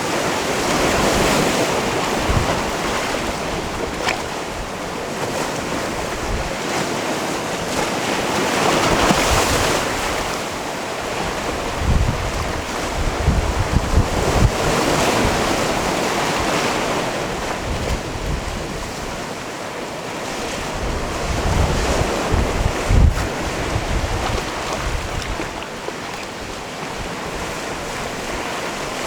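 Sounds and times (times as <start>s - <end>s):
waves washing over stony shore: 0.0s - 29.0s
wind buffeting microphone: 0.3s - 5.1s, 5.7s - 6.6s, 8.4s - 19.4s, 20.4s - 29.0s.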